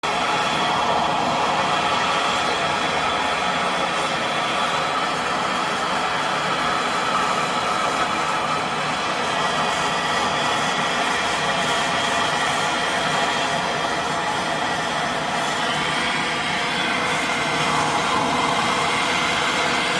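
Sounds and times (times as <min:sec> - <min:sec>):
torch flame hissing: 0:00.0 - 0:19.9.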